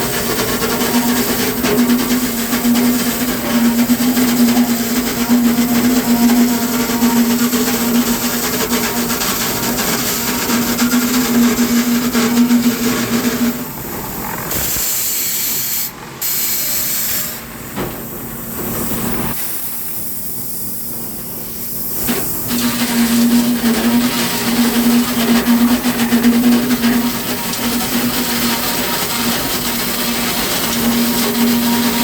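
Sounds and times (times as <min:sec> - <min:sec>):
sawmill machinery hum: 0:00.0 - 0:19.4, 0:22.0 - 0:32.0.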